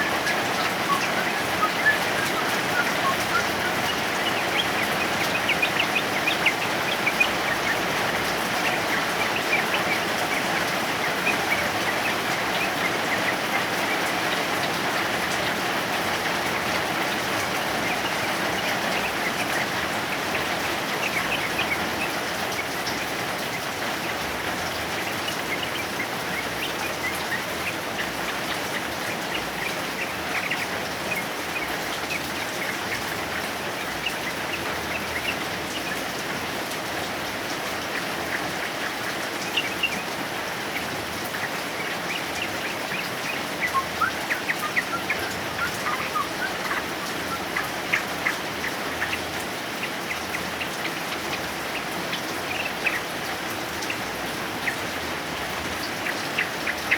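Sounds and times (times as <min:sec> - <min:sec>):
bird chirping song: 0:00.0 - 0:56.9
heavy rain: 0:00.0 - 0:56.9.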